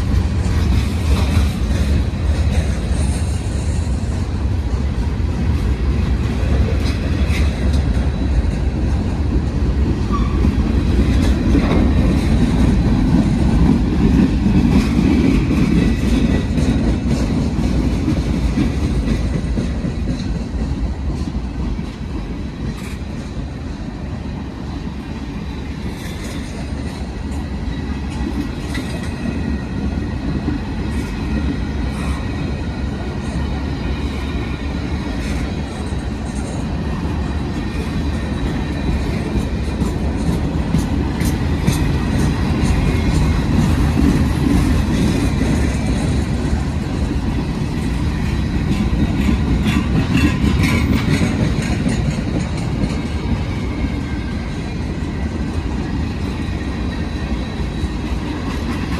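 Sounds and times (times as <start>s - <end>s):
train rumbling on rails: 0.0s - 58.9s.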